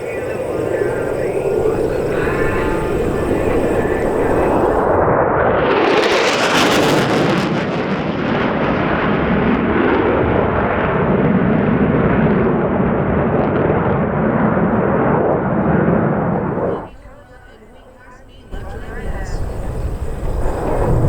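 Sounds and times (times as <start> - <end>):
harsh crackle of jet: 0.0 - 17.4, 18.4 - 21.0
jet roaring past: 0.0 - 21.0.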